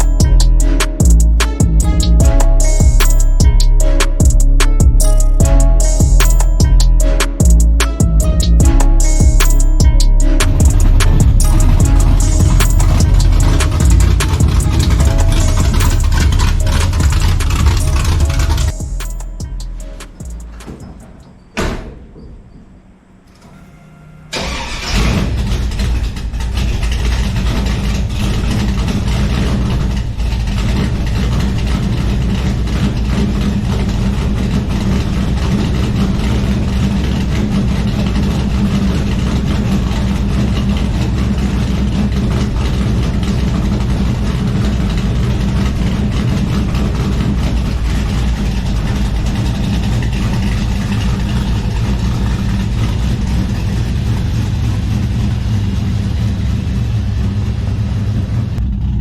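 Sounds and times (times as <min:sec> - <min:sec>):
engine idling: 0:00.0 - 0:22.0, 0:23.2 - 0:59.0.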